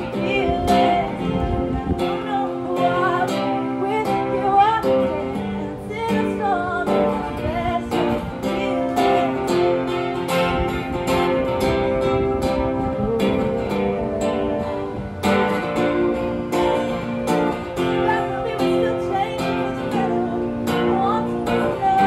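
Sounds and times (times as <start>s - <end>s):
acoustic guitar strumming: 0.0s - 22.0s
woman singing: 0.0s - 22.0s.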